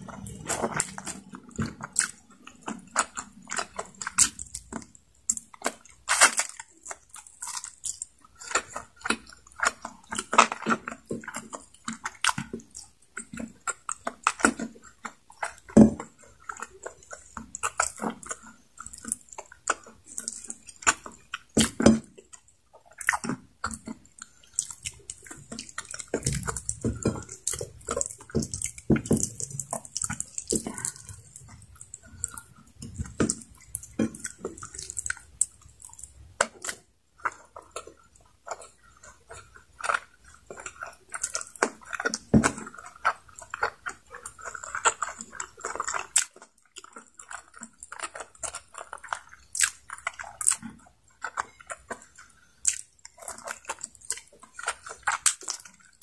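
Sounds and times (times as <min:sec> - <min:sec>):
close chewing and mouth sounds: 0:00.0 - 0:56.0.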